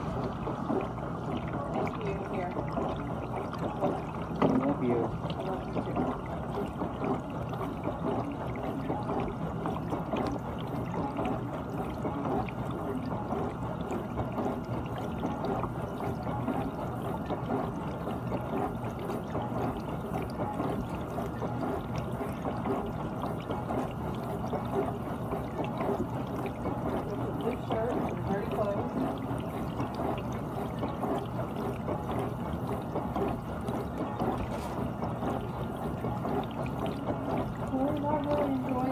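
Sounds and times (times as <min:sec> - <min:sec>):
dishwasher water spraying and sloshing: 0:00.0 - 0:38.9.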